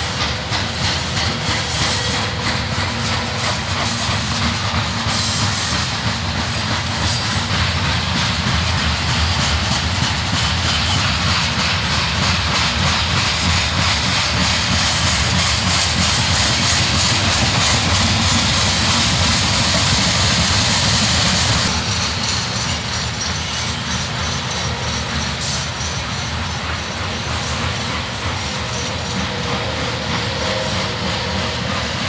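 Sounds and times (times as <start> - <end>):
train rolling past: 0.0 - 32.0.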